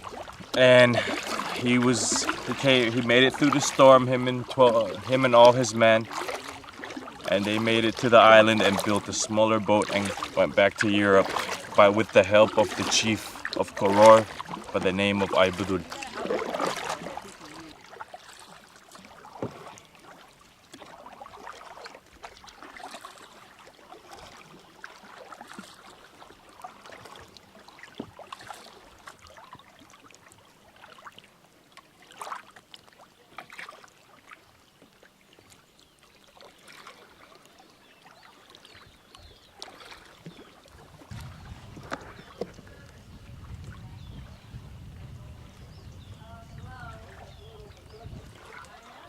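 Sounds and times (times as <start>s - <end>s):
kayak paddles splashing in water: 0.0s - 49.0s.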